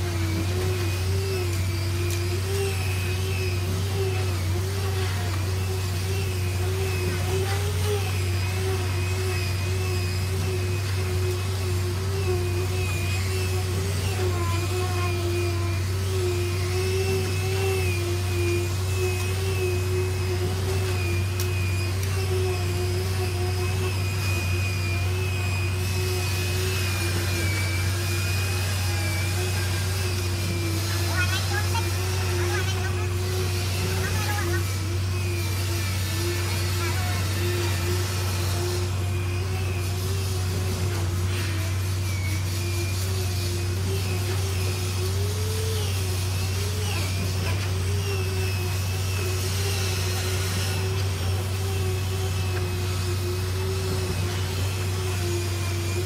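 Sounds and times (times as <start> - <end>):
construction machinery humming: 0.0 - 56.0
high-pitched whining tones: 0.0 - 56.0.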